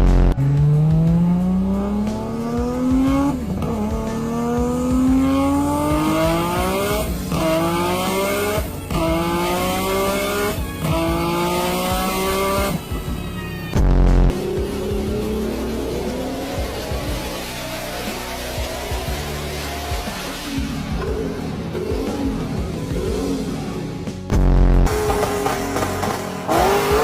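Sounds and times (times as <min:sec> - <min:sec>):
car engine full-throttle revving: 0:00.0 - 0:13.2, 0:13.8 - 0:27.0.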